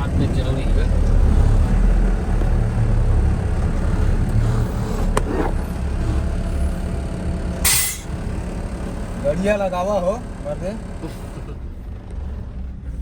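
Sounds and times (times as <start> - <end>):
diesel machinery engine rumbling: 0.0 - 13.0.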